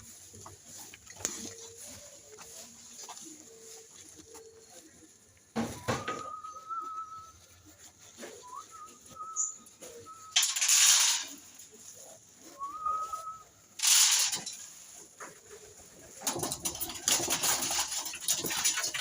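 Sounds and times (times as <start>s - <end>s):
birds rustling and scratching: 0.0s - 19.0s.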